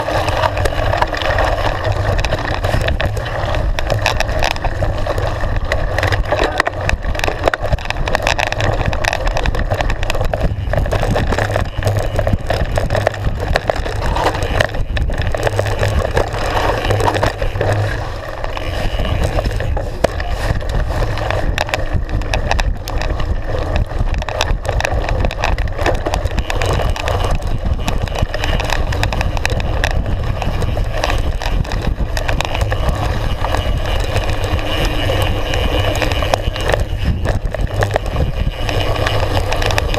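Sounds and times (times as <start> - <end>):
bike rattling over bumps: 0.0 - 39.9
tyres crunching on gravel: 0.0 - 39.9.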